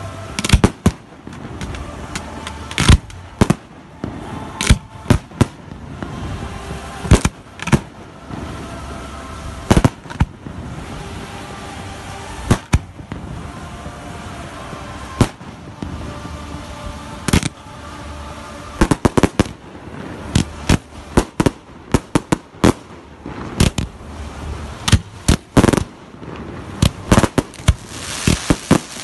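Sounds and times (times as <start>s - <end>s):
rising firework hiss: 0.0s - 29.0s.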